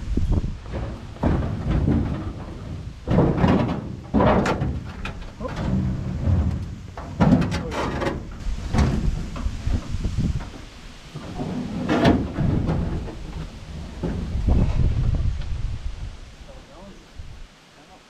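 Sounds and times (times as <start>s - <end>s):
metal truck bed scraping and clunking: 0.2s - 15.3s.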